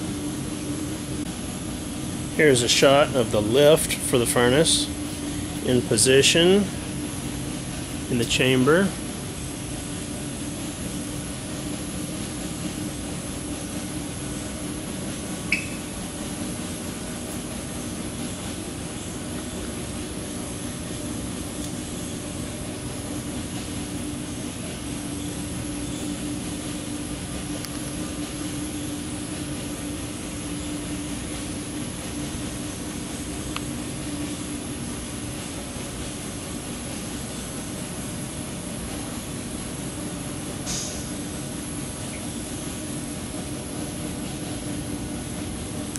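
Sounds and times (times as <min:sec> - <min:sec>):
industrial machinery hum: 0:00.0 - 0:45.9.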